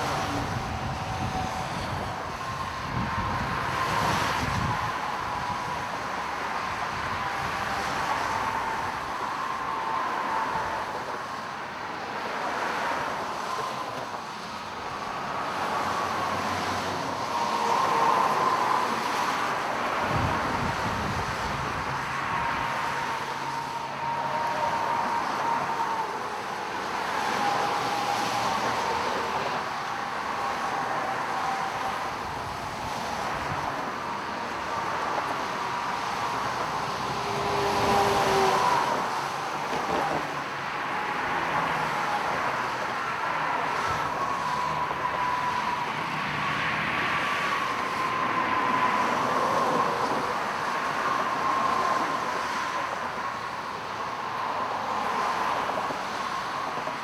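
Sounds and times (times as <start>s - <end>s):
freeway traffic: 0.0s - 57.0s.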